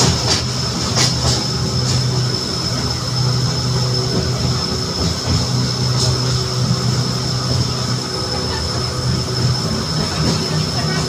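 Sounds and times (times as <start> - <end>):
high whine: 0.0 - 11.0
train rumble and hum: 0.0 - 11.0.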